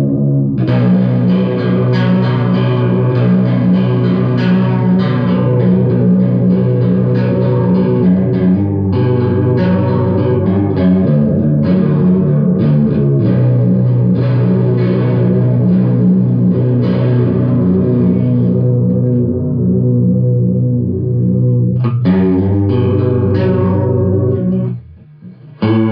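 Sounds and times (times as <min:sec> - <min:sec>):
electric guitar strumming chords: 0:00.0 - 0:25.9.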